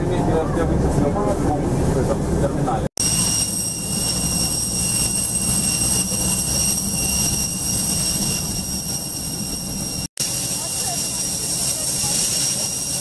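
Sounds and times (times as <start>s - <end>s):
jet turbine whine and rumble: 0.0s - 13.0s.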